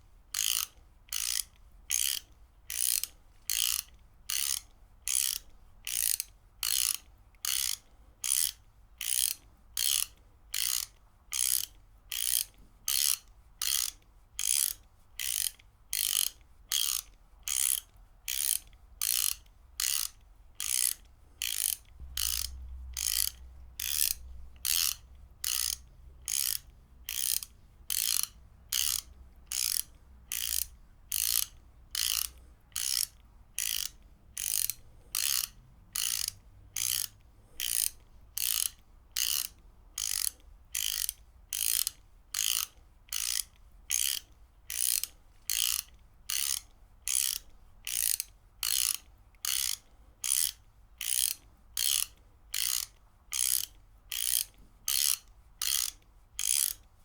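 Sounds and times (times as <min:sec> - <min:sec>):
ratchet wrench clicking: 0:00.3 - 0:56.8.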